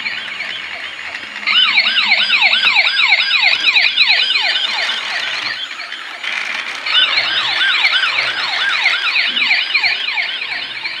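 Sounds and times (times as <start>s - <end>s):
toy car electronic siren: 0.0s - 11.0s.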